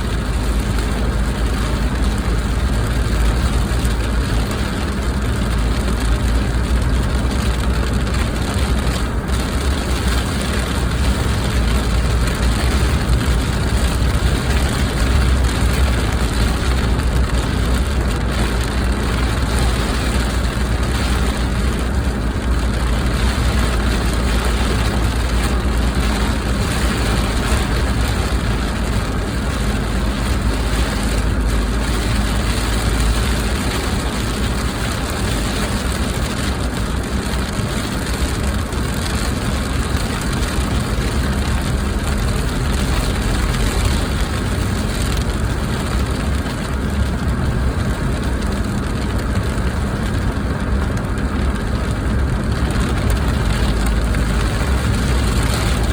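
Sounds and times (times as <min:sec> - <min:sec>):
car engine rumble: 0:00.0 - 0:55.9
heavy rain on a car: 0:00.0 - 0:55.9.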